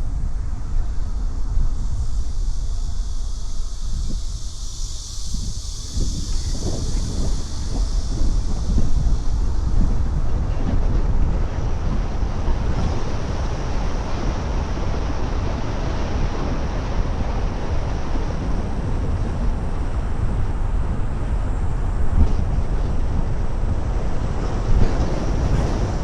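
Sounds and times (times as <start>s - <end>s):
car road and tyre noise: 0.0s - 26.0s.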